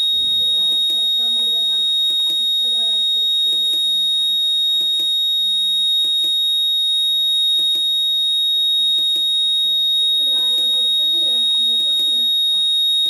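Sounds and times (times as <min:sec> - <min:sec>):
alarm buzzer tone: 0:00.0 - 0:13.0.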